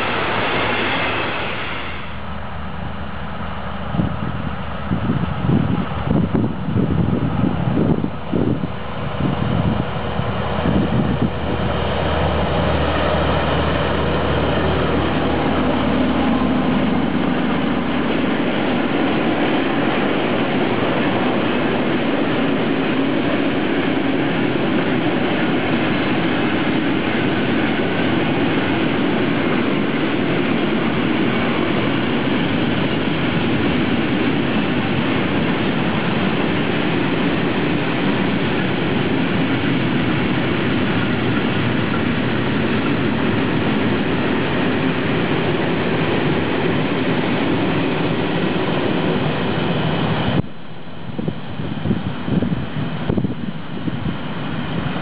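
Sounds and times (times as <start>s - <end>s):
locomotive engine drone: 0.0s - 55.0s
train wagons rumbling on track: 0.0s - 55.0s.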